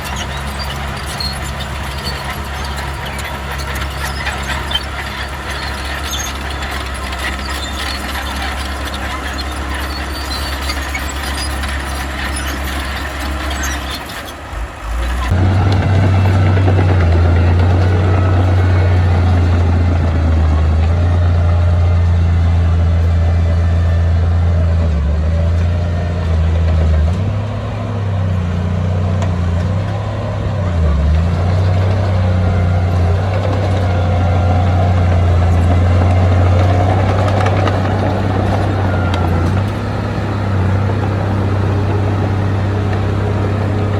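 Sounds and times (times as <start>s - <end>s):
heavy diesel engine rumbling: 0.0s - 43.9s.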